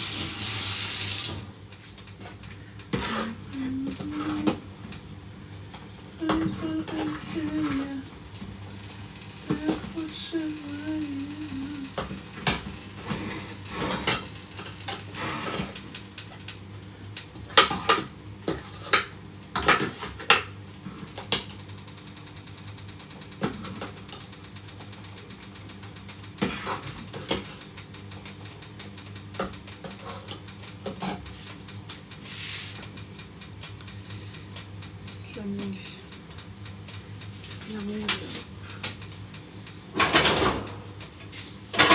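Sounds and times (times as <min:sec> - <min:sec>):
steady low hum: 0:01.5 - 0:41.9.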